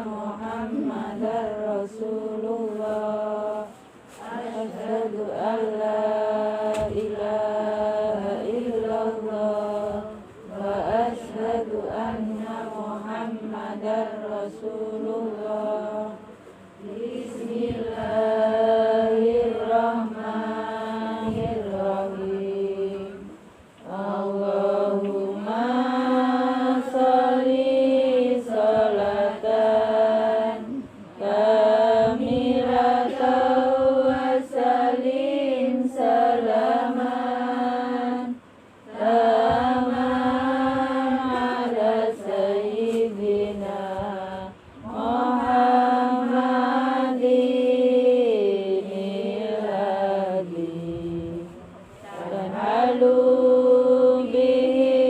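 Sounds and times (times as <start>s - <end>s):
group chanting prayers in unison: 0.0s - 55.0s.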